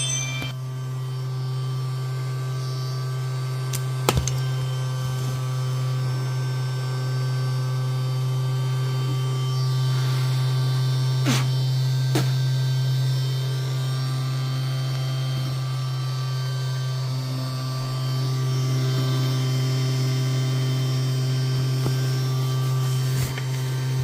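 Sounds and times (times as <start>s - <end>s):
vacuum cleaner motor humming: 0.0s - 24.0s.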